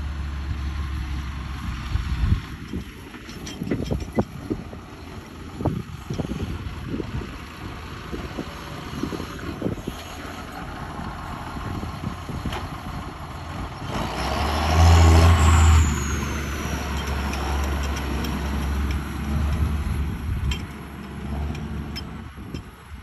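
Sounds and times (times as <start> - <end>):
tractor engine hum: 0.0 - 23.0.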